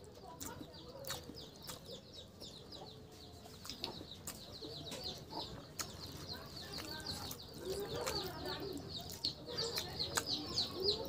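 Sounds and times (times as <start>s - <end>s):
man chewing food: 0.0s - 11.0s
small birds chirping: 0.0s - 11.0s.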